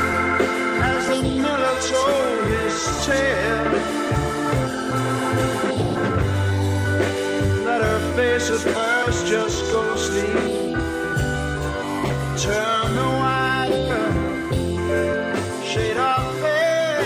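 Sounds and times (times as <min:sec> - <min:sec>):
song with bass and melody: 0:00.0 - 0:17.0.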